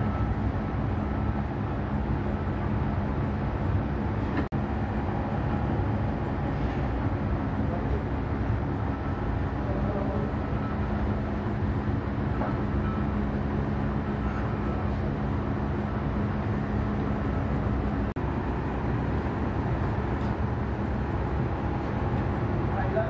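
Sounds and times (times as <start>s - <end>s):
constant machine hum: 0.0s - 23.0s
factory machinery rumble: 0.0s - 23.0s.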